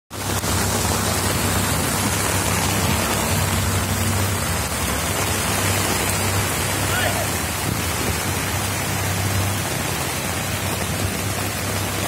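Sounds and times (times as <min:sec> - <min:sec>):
heavy rain hiss: 0:00.1 - 0:12.0.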